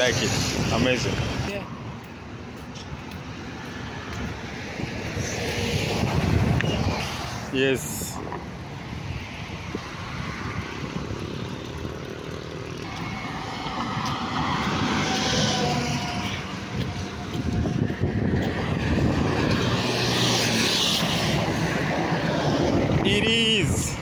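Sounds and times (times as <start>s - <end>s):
cars passing with tyre hiss: 0.0s - 24.0s.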